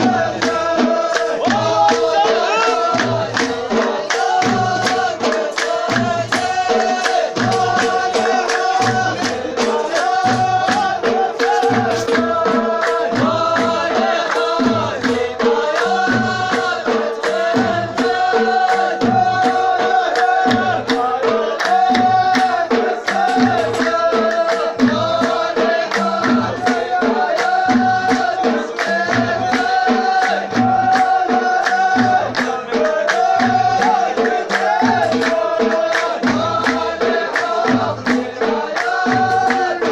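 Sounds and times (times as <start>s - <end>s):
sharp percussive strokes: 0.0s - 39.9s
steady drum beat: 0.0s - 39.9s.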